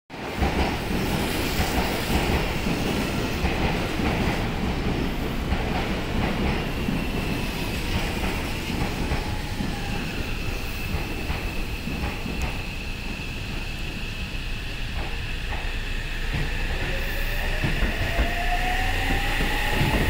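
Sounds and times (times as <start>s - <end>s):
train running gear rumble: 0.1s - 20.0s.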